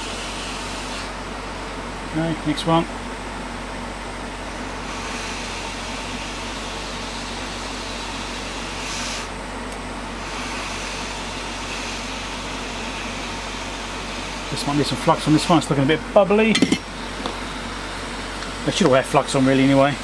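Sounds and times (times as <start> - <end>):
hot air blower hissing: 0.0 - 3.0, 4.1 - 20.0.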